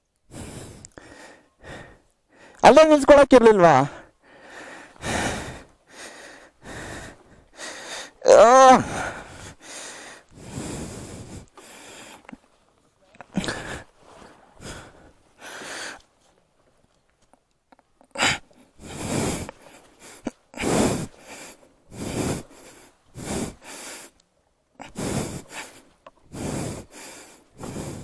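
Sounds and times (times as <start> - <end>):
person breathing hard: 0.3 - 2.6, 3.9 - 12.4, 13.2 - 16.1, 18.0 - 24.2, 24.8 - 28.0.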